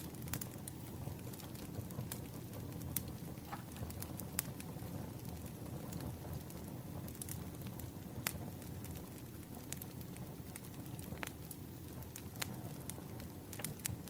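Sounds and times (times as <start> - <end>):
campfire crackling: 0.0 - 14.0
sharp pops of fire: 0.0 - 14.0.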